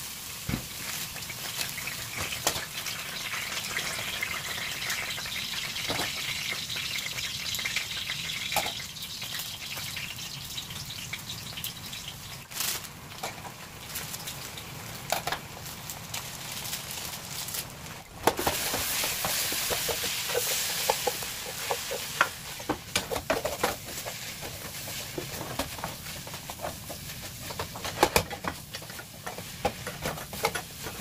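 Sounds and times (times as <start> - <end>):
food sizzling in a frying pan: 0.0 - 31.0.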